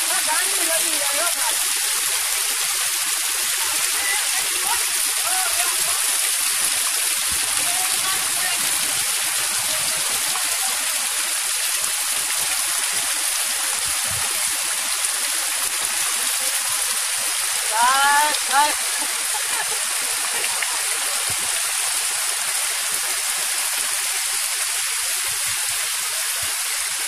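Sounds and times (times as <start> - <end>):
torrential rain pouring: 0.0 - 27.0.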